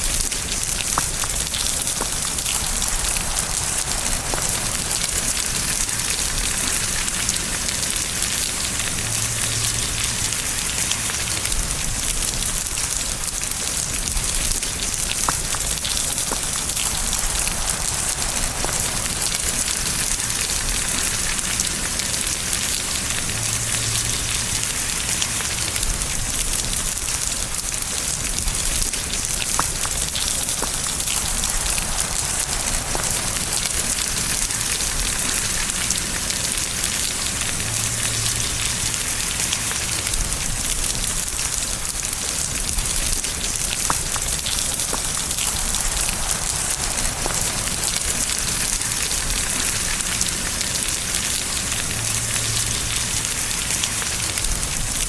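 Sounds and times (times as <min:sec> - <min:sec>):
raindrop ticks: 0:00.0 - 0:55.0
steady rain hiss: 0:00.0 - 0:55.0.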